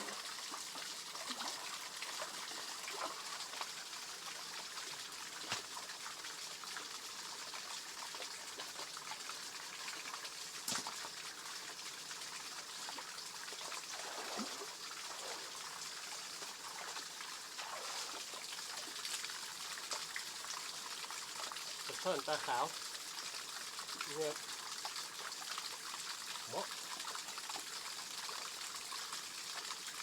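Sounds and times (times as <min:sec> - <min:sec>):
water trickling over small cascade: 0:00.0 - 0:30.0.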